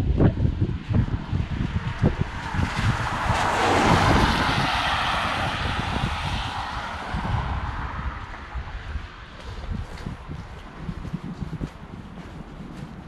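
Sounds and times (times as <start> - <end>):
wind buffeting microphone: 0.0 - 13.0
vehicle passing by: 0.8 - 13.0.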